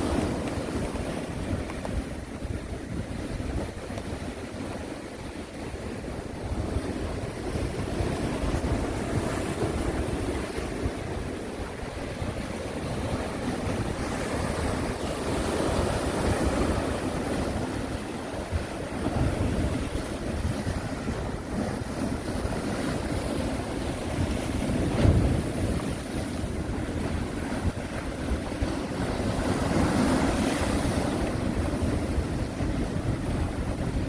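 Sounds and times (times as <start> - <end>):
sea waves breaking on shore: 0.0 - 34.0
wind rumbling on microphone: 0.0 - 34.0.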